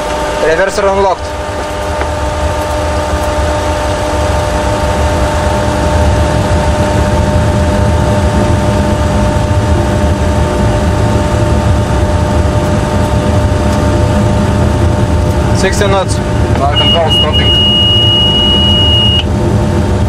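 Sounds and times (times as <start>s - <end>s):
high whine: 0.0s - 20.0s
jet engines reverse thrust rumble: 0.0s - 20.0s.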